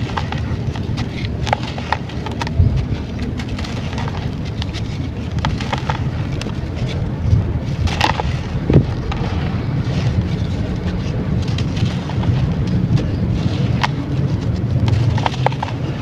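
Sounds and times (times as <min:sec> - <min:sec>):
sand chunks crumbling and crunching: 0:00.0 - 0:16.0
steady low rumble: 0:00.0 - 0:16.0.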